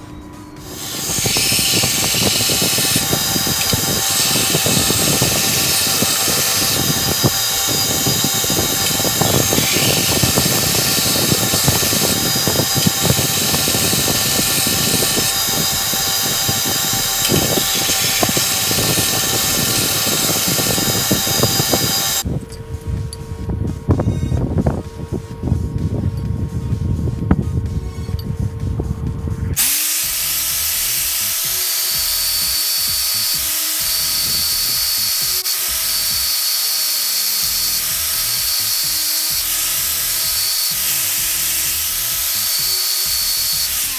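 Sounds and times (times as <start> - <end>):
motor hum: 0.0 - 43.9
belt grinder grinding hiss: 0.6 - 22.3, 29.6 - 43.9.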